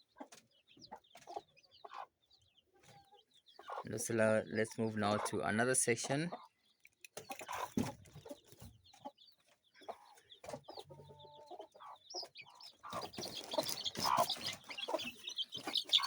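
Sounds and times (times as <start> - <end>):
chicks peeping: 0.0 - 16.0
hens clucking: 0.0 - 16.0.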